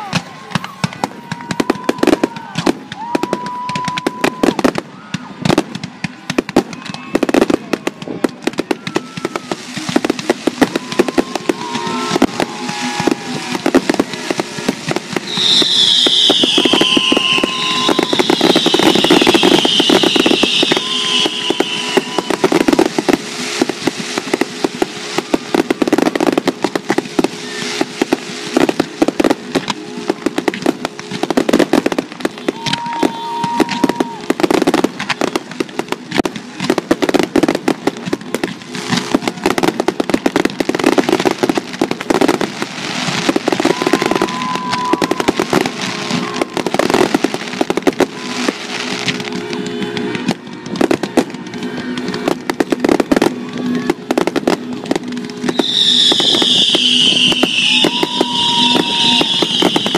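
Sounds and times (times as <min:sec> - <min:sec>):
fireworks bursting with crackle: 0:00.0 - 0:59.9.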